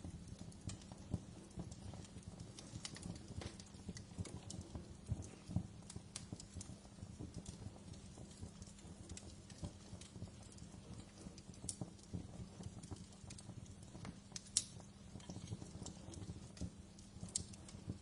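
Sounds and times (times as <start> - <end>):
hiss of flame: 0.0 - 18.0
wood fire crackling and popping: 0.0 - 18.0.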